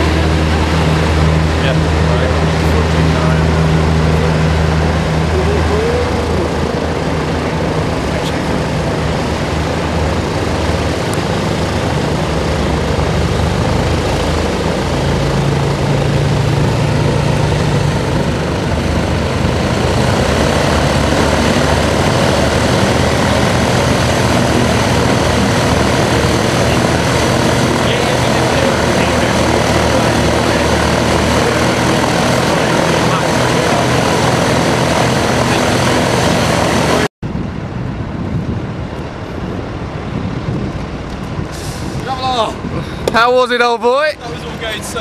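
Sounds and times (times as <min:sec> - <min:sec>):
small plane engine droning: 0:00.0 - 0:43.3
steady rushing noise: 0:00.0 - 0:45.0.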